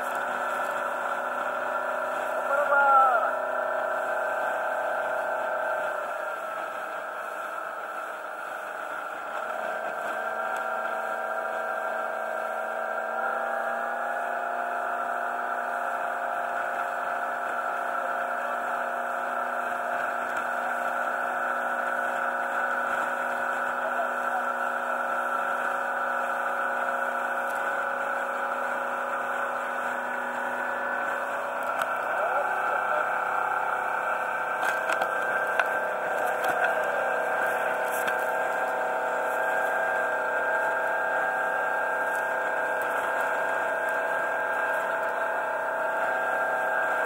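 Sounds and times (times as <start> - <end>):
boat engine running: 0.0 - 47.0
engine whine: 0.0 - 47.0.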